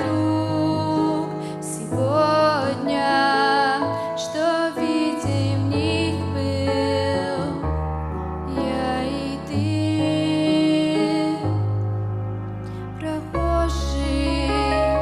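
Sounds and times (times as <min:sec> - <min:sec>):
slow gentle hymn music: 0:00.0 - 0:15.0.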